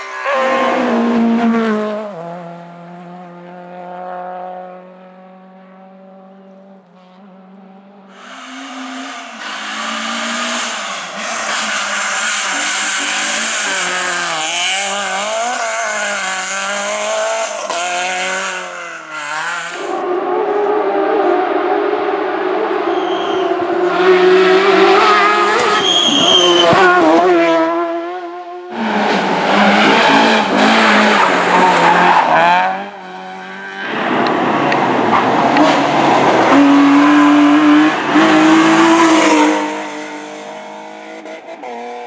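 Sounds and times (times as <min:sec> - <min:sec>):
racing car engines at full throttle: 0:00.0 - 0:42.0.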